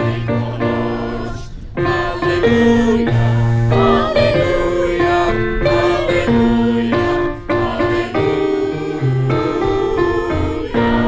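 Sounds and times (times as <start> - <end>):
group singing a hymn: 0.0 - 11.0
keyboard held notes: 0.0 - 11.0.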